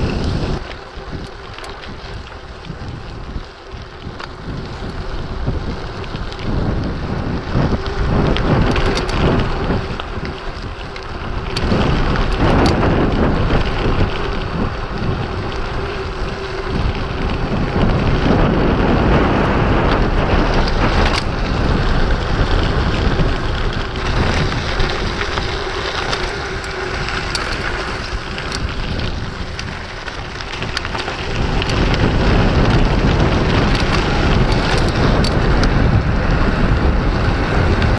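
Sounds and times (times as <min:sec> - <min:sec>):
bike rattling and clicking: 0:00.0 - 0:37.9
tyres rumbling on gravel: 0:00.0 - 0:37.9
wind buffeting microphone: 0:00.0 - 0:37.9.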